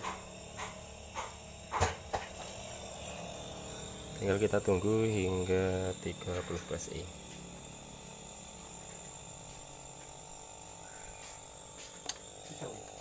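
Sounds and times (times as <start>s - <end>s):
compressor humming with rattle: 0.0s - 13.0s.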